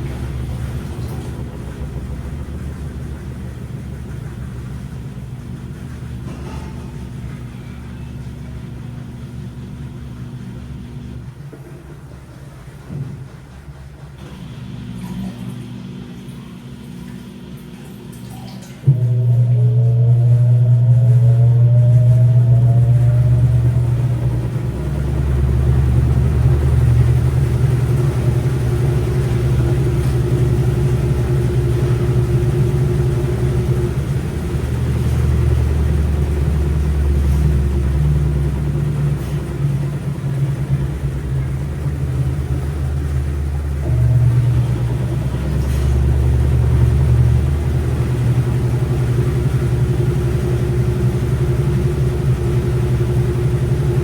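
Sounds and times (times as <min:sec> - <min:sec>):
faint constant whine: 0:00.0 - 0:54.0
washing machine running: 0:00.0 - 0:54.0.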